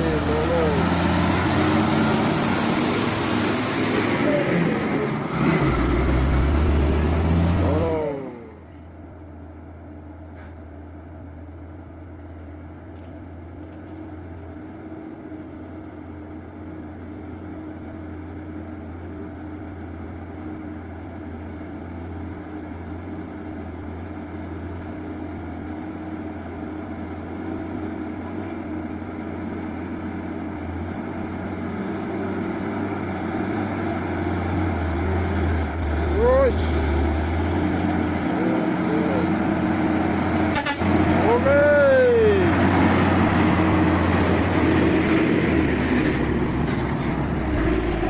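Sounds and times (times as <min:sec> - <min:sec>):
truck engine humming: 0:00.0 - 0:48.0.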